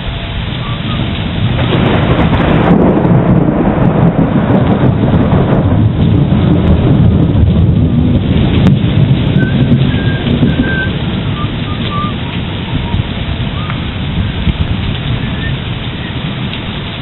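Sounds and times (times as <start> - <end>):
wind and rain rumble: 0.0 - 17.0.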